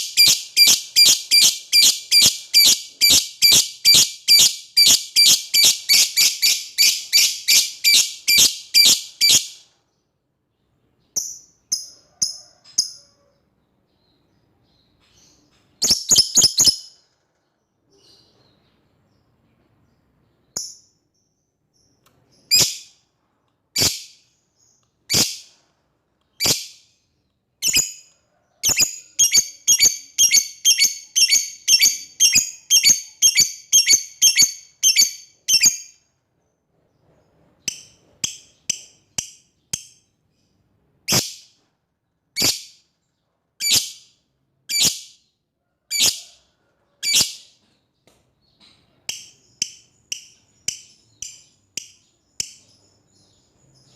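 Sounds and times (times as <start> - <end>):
lovebird chirping: 0.0 - 10.0, 10.6 - 25.7, 26.3 - 41.6, 48.4 - 53.9.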